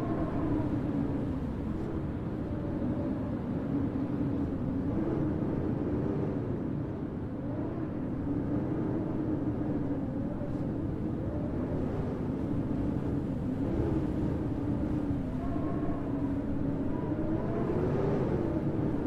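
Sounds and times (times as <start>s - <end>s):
blizzard wind howling: 0.0s - 19.0s.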